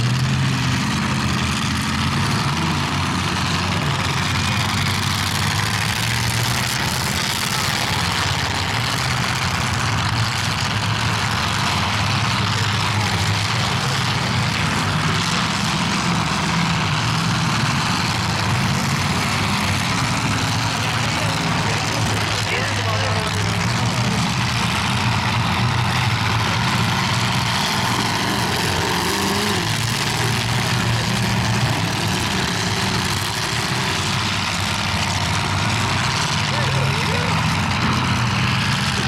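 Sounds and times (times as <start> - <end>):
car engines droning: 0.0 - 39.0.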